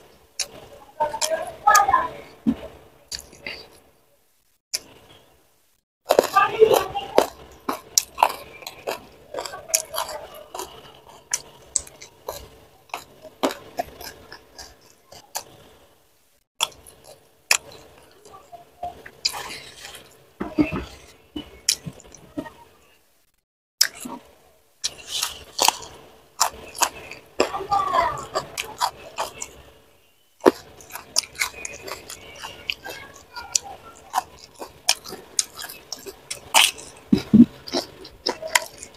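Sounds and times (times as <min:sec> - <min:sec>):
food crunching: 0:00.0 - 0:02.2, 0:03.1 - 0:03.9, 0:06.1 - 0:15.9, 0:16.6 - 0:22.6, 0:23.8 - 0:38.9
close chewing of food: 0:00.0 - 0:03.9, 0:06.0 - 0:16.0, 0:16.6 - 0:22.7, 0:23.8 - 0:38.9.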